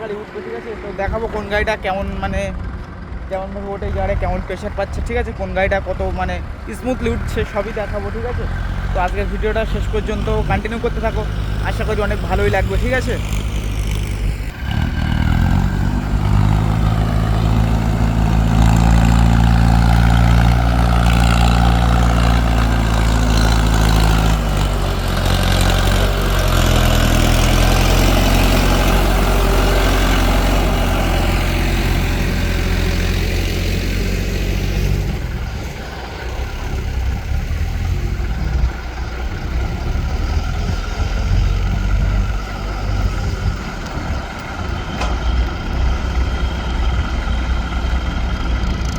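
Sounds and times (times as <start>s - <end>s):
diesel tractor engine under load: 0.0s - 48.9s.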